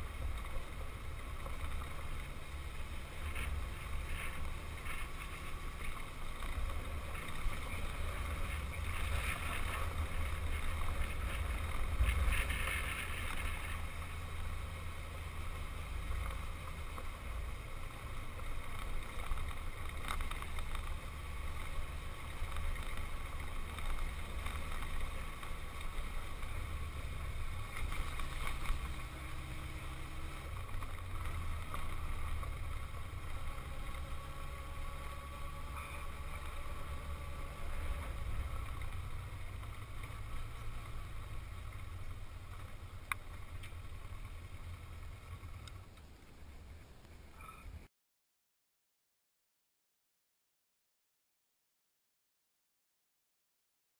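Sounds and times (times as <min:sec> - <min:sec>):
motorcycle engine rumble: 0:00.0 - 0:47.9.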